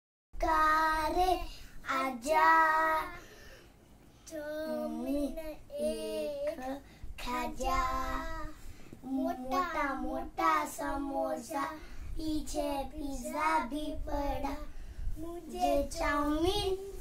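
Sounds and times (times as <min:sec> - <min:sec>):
young child singing: 0:00.4 - 0:03.3, 0:04.3 - 0:17.0.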